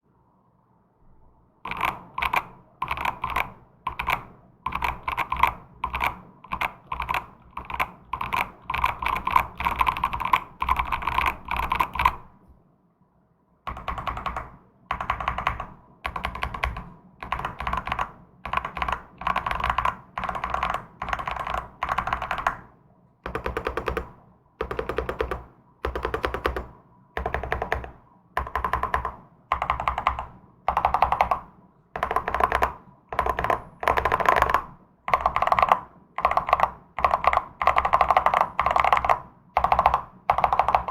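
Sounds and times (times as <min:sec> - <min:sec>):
mechanical keyboard typing: 0:01.7 - 0:12.3, 0:13.7 - 0:22.7, 0:23.3 - 0:40.9.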